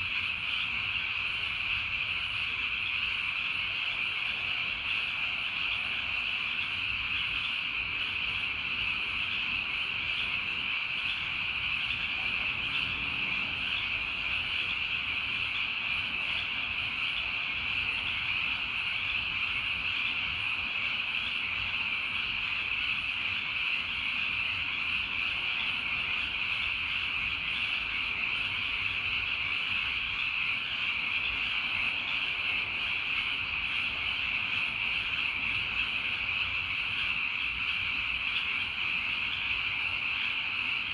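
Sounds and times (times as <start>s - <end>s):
chorus of calling animals: 0.0s - 40.9s.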